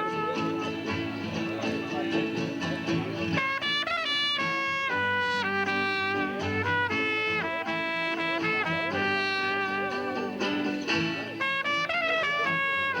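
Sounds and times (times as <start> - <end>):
trumpet melody: 0.0 - 1.3, 3.2 - 13.0
backing accompaniment with bass: 0.0 - 13.0.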